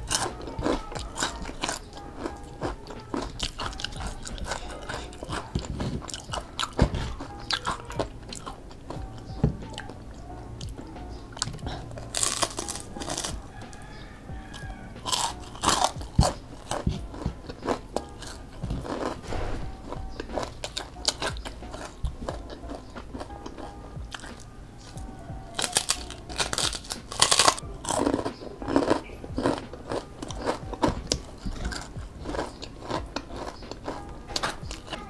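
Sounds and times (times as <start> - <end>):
crunchy food being chewed: 0.0 - 35.0
quiet background music: 0.0 - 35.0.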